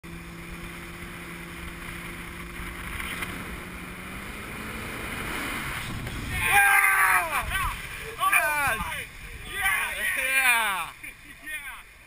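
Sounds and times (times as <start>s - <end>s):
motorboat engine hum: 0.0s - 12.0s
rush of wind and water: 0.1s - 12.0s.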